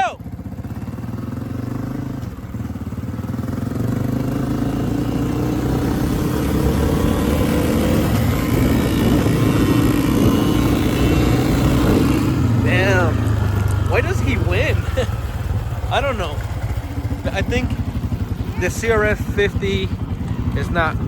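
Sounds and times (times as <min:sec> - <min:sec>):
dirt bike engines racing: 0:00.0 - 0:21.0.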